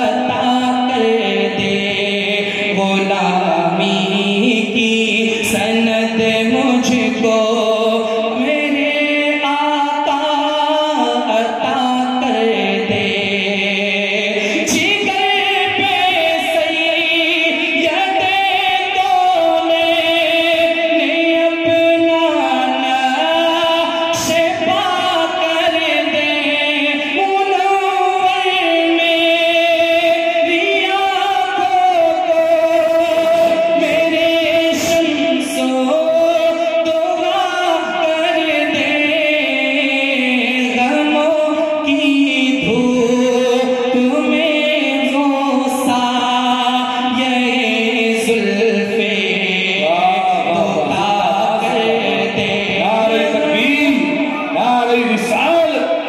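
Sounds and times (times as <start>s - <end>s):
layered voices singing devotional song: 0.0s - 56.0s.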